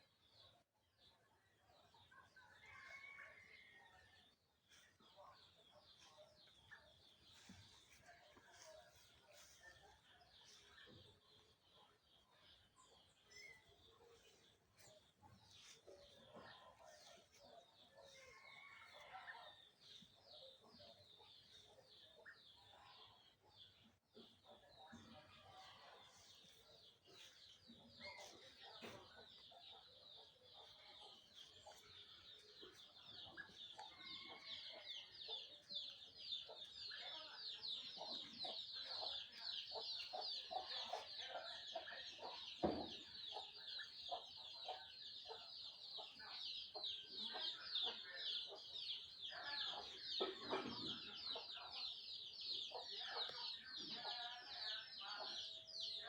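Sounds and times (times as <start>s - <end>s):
many birds chirping: 0.0s - 56.0s.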